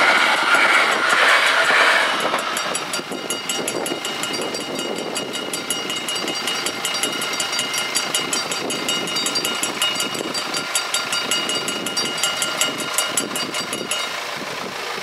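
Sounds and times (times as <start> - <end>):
level crossing bells ringing: 2.2 - 14.3.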